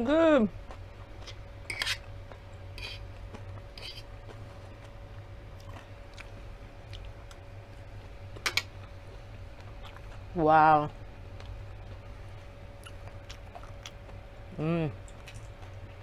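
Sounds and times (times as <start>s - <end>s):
steady low hum: 0.0s - 16.0s
person chewing food: 0.6s - 10.3s, 11.3s - 14.3s, 15.0s - 16.0s.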